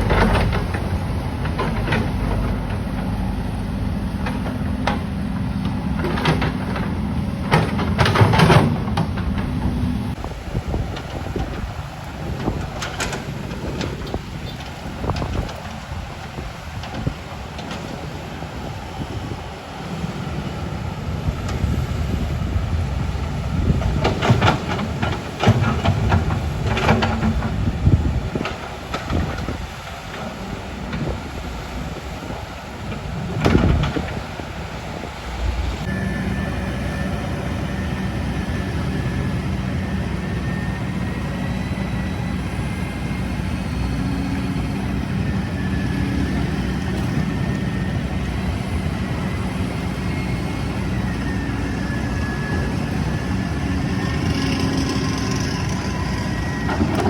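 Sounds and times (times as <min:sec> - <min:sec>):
excavator diesel engine running: 0:00.0 - 0:57.0
thin engine whine: 0:00.0 - 0:57.0.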